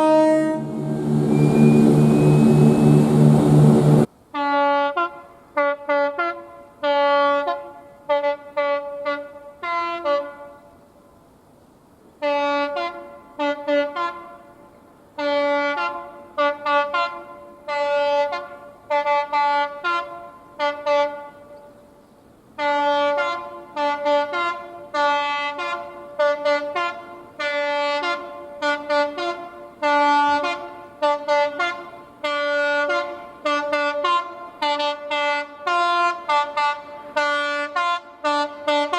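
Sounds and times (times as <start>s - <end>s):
two-tone train horn blasts: 0.0s - 10.8s, 12.2s - 21.8s, 22.6s - 38.9s.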